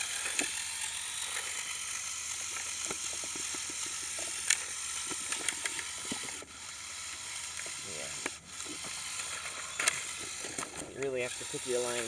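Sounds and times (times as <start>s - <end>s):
electric motors whining: 0.0s - 12.0s
plastic drivetrain clicks and knocks: 0.0s - 12.0s.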